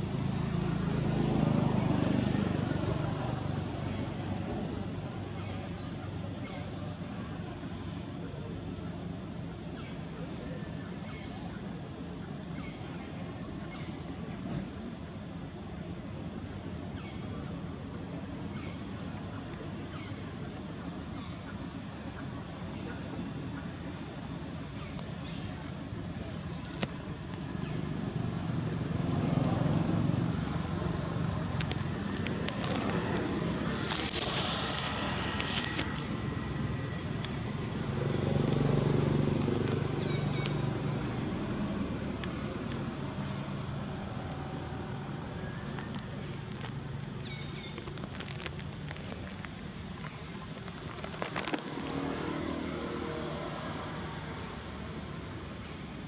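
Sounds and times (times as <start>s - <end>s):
outdoor background noise: 0.0s - 56.0s
vehicle engine rumbling: 0.0s - 56.0s.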